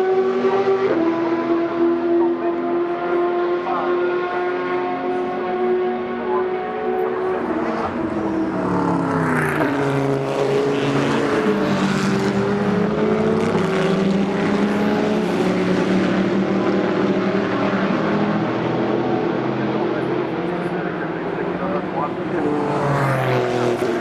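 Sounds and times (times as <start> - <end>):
race car engines passing: 0.0 - 24.0.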